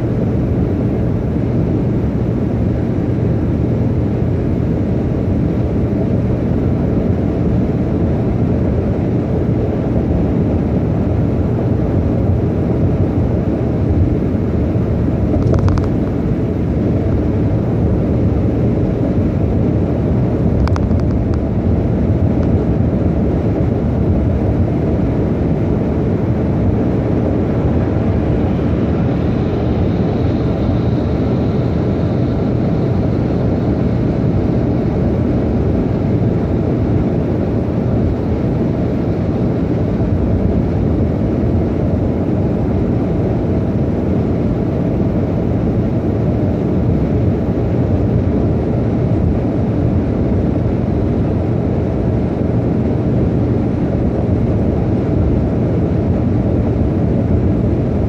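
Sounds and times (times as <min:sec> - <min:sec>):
car road noise at highway speed: 0:00.0 - 0:58.0.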